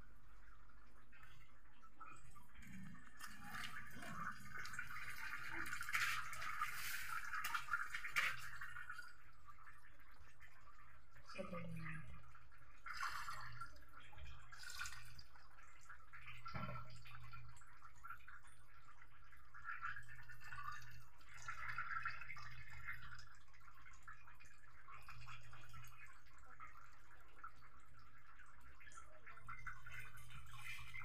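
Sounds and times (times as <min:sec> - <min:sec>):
milk trickling into a pot: 0:00.0 - 0:31.0.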